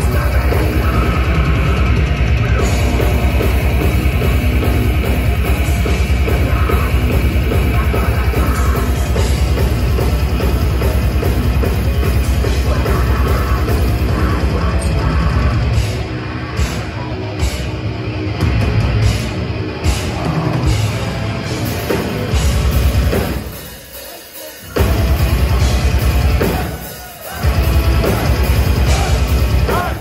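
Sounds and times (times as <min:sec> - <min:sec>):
death metal band playing live: 0:00.0 - 0:30.0.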